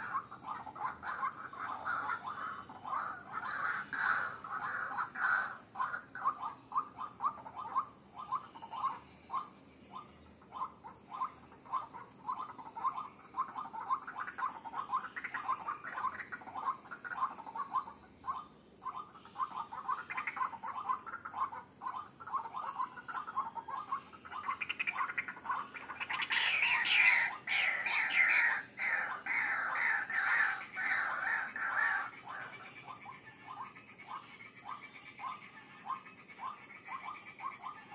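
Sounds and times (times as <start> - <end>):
waterhen repeated call notes: 0.0 - 37.9.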